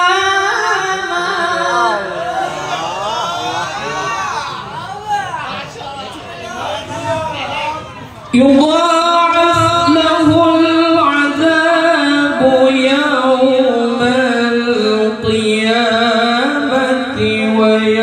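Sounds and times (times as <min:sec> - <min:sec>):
person reciting melodically into microphone: 0:00.0 - 0:04.2, 0:05.5 - 0:18.0.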